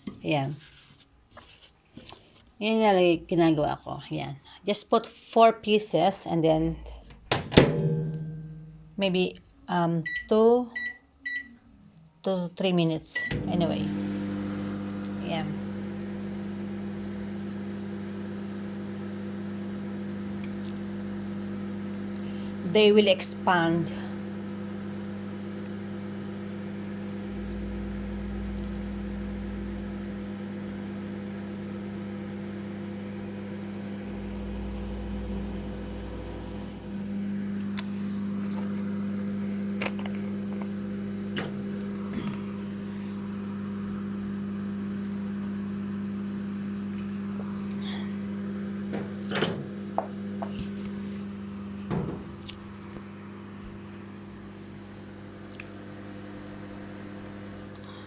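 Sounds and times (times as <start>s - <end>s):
microwave oven humming: 6.4s - 12.2s, 12.8s - 58.0s.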